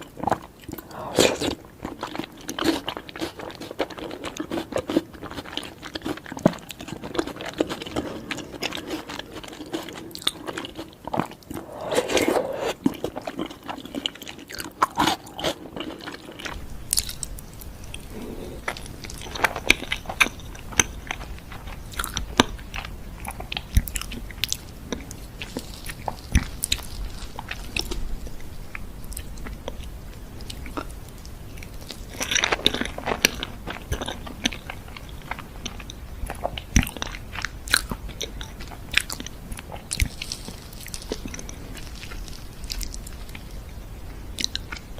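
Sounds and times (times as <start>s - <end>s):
person chewing food: 0.0s - 28.3s, 29.1s - 43.5s.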